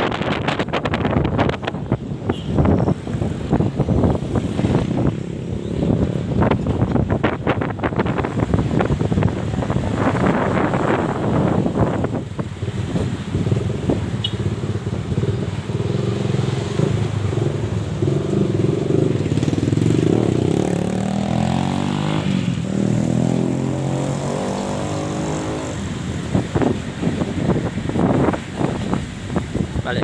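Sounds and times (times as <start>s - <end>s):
motorcycle engine revving: 2.3s - 29.6s.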